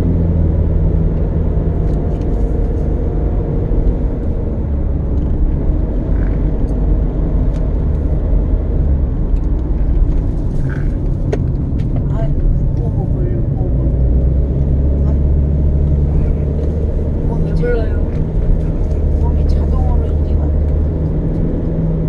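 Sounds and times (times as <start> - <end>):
engine and road drone: 0.0 - 22.0.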